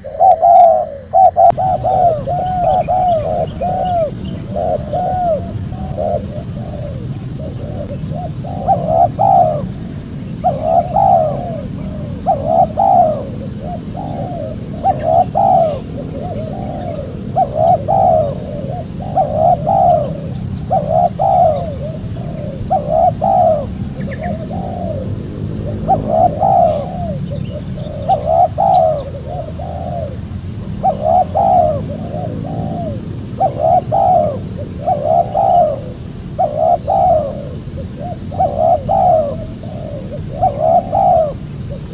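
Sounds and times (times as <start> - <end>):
dove cooing: 0.0 - 41.9
low background hum: 0.0 - 41.9.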